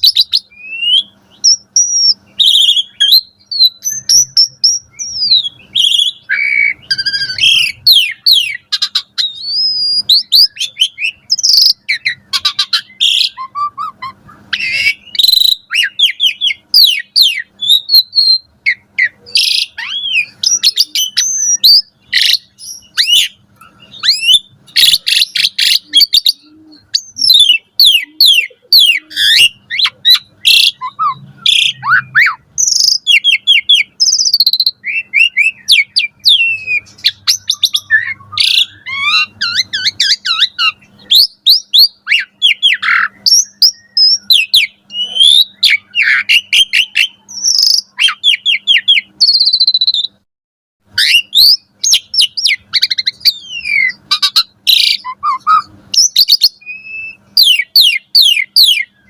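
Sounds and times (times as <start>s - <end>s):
starling singing: 0.0s - 50.2s, 50.9s - 59.0s.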